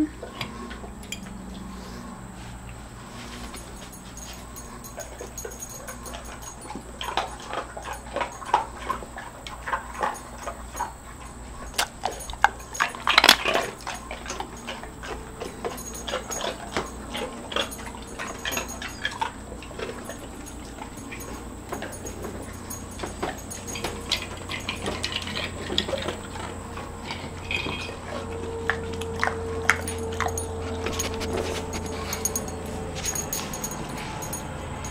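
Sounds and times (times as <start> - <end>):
dog crunching ice cubes: 3.4 - 34.9.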